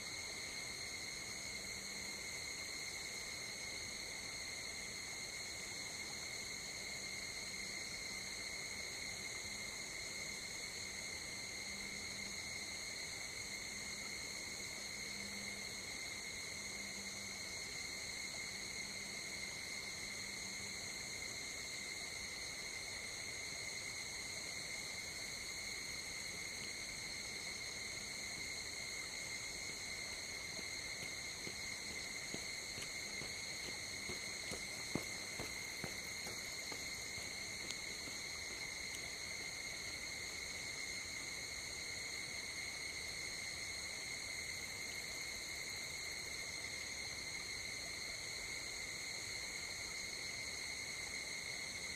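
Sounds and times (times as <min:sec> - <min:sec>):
night insect chorus trilling: 0:00.0 - 0:51.9.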